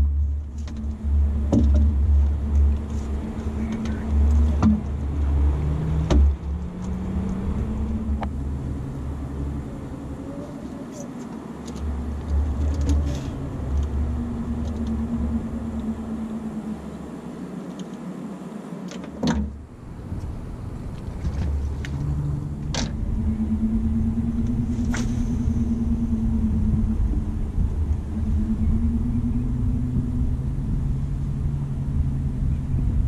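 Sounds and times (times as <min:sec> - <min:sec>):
steady low hum: 0:00.0 - 0:33.0
wind rumbling on microphone: 0:00.0 - 0:33.0.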